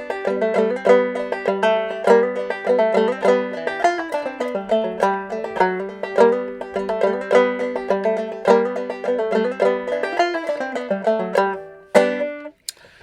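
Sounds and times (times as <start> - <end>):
banjo plucked notes: 0.0 - 12.6.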